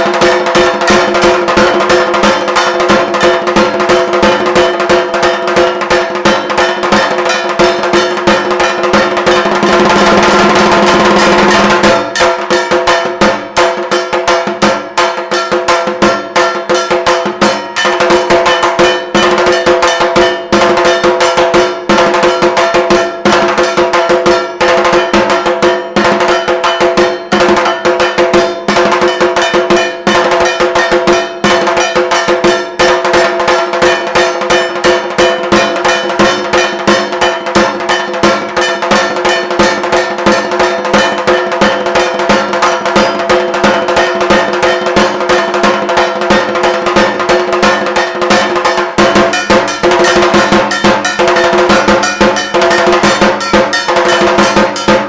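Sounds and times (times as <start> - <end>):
small gong clanging: 0.0 - 46.4, 47.7 - 55.0
drums beaten with sticks: 0.0 - 55.0.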